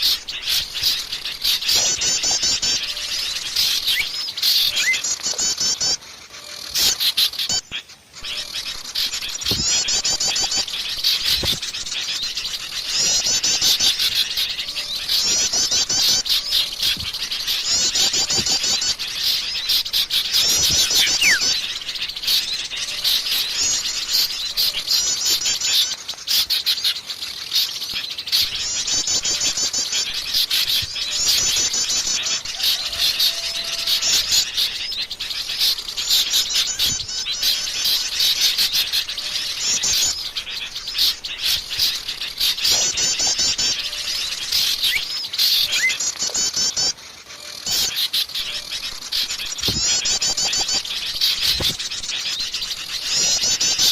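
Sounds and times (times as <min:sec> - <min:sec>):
rapid bird trill: 0:00.0 - 0:53.9
songbirds chirping and chattering: 0:00.0 - 0:53.9.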